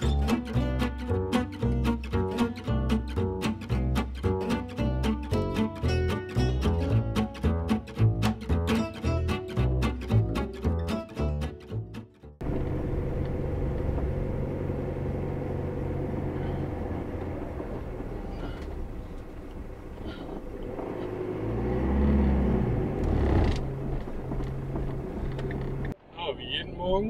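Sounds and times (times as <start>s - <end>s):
van engine rumble: 0.0s - 26.0s
road noise: 0.0s - 27.0s.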